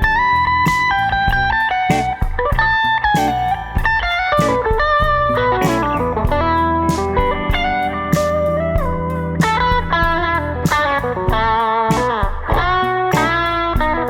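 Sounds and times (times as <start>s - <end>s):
electric guitar lead line: 0.0s - 14.0s
sustained low bass notes: 0.0s - 14.0s.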